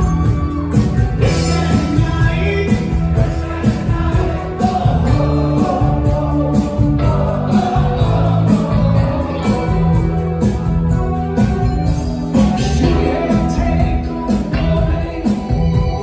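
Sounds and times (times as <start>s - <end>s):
live rock band playing: 0.0s - 16.0s
man singing lead vocal: 1.2s - 16.0s.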